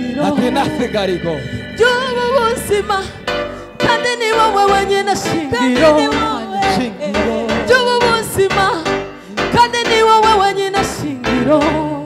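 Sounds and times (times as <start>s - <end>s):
gospel singing: 0.0s - 12.0s.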